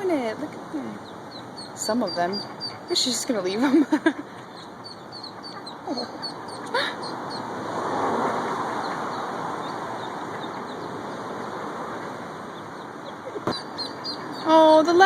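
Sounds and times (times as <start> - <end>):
vehicle passing: 0.0 - 15.0
duckling peeps: 0.8 - 7.5, 8.5 - 14.8.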